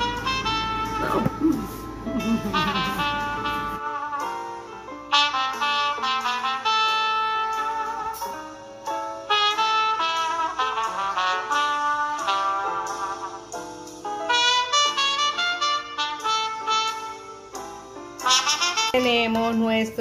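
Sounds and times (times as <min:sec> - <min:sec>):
brass instrumental music: 0:00.0 - 0:20.0
low room noise: 0:00.0 - 0:20.0.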